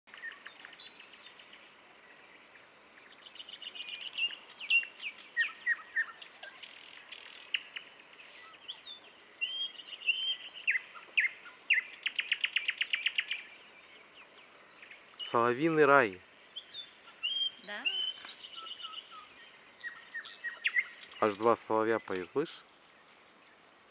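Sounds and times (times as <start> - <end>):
nightingale singing: 0.1 - 23.9.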